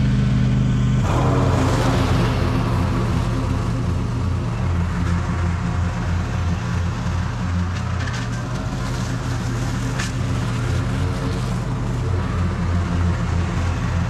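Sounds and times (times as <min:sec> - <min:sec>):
lawn mower running: 0:00.0 - 0:14.0.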